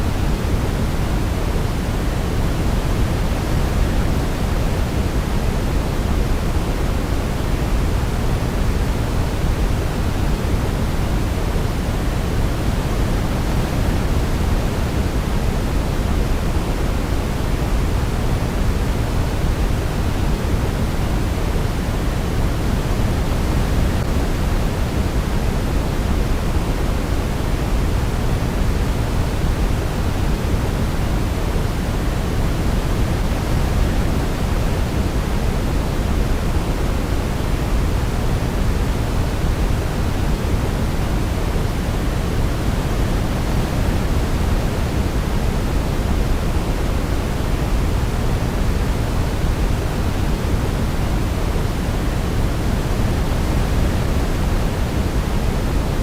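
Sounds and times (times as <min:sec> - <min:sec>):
steady pink noise: 0:00.0 - 0:56.0.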